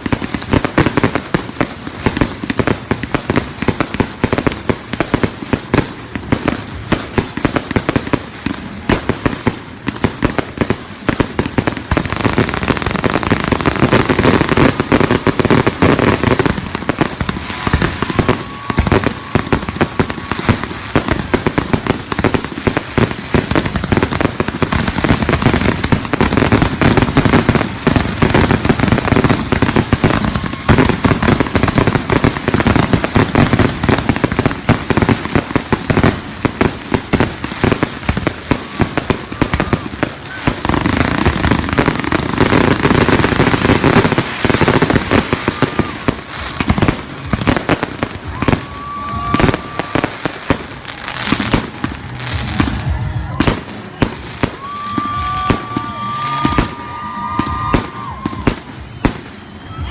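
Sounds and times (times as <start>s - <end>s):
fireworks popping and crackling: 0.0s - 59.9s.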